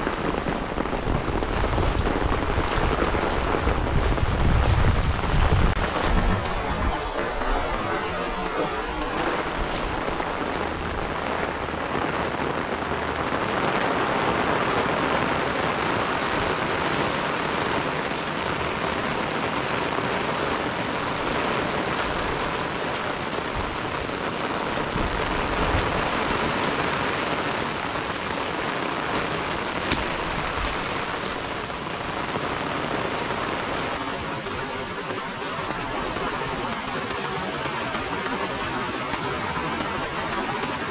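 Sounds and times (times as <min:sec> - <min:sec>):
heavy rain on grass: 0:00.0 - 0:40.9.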